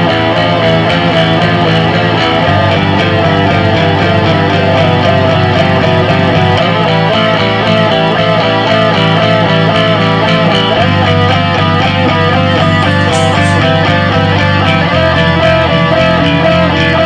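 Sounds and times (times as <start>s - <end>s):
fast guitar run: 0.0s - 17.0s
steady low bass: 0.0s - 17.0s.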